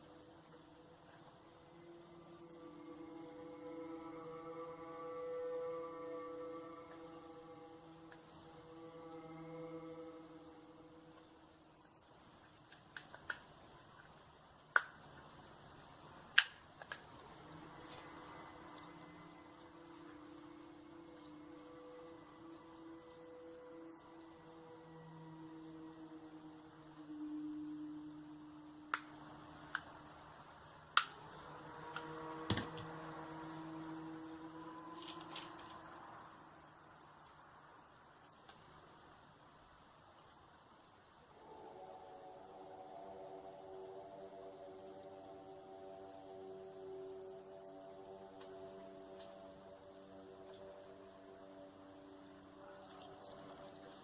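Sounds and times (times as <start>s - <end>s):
faint hiss: 0.0s - 54.0s
low droning hum: 0.0s - 54.0s.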